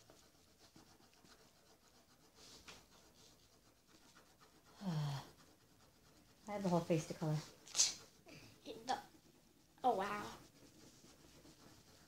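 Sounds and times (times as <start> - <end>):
coloring tool scratching paper: 0.0 - 12.0.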